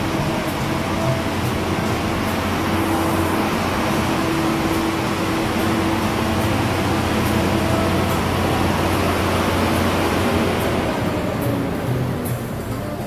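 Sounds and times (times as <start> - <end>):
machine rushing sound: 0.0 - 12.8
faint steady whine: 0.0 - 13.0
low machine hum: 0.0 - 13.0.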